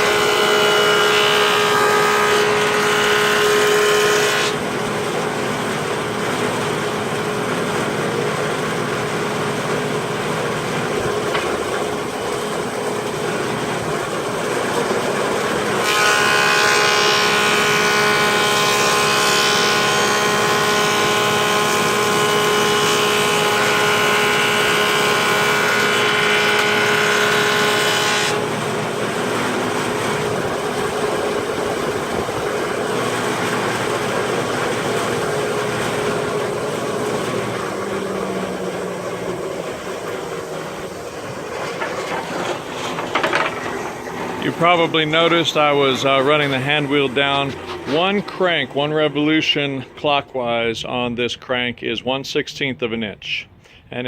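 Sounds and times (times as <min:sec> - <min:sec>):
planer cutting board: 0:00.0 - 0:07.1, 0:07.7 - 0:49.3
planer motor humming: 0:00.0 - 0:50.1.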